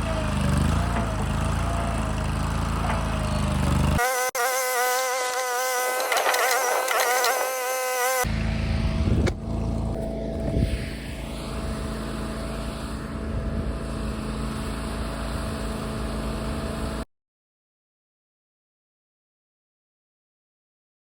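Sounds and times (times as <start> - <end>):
loader engine running: 0.0 - 17.0.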